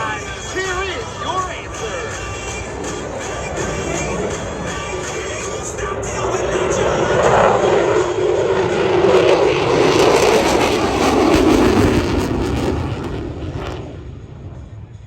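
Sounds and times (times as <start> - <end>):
jet flyby roar: 0.0 - 15.0.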